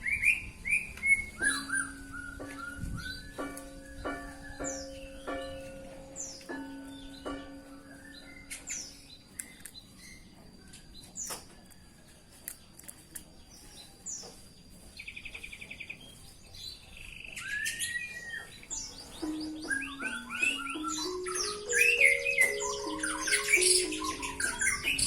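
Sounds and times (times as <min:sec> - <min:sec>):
canary chirping: 0:00.0 - 0:10.4, 0:15.0 - 0:25.0.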